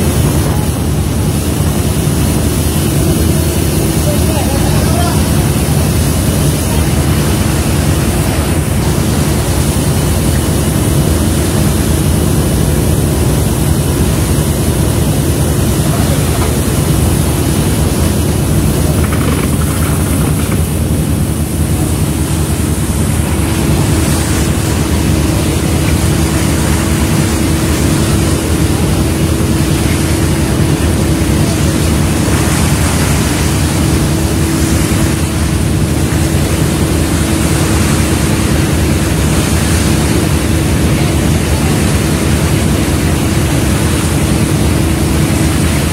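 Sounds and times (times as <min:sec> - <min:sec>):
boat engines droning: 0:00.0 - 0:45.9
deck machinery hum: 0:00.0 - 0:45.9.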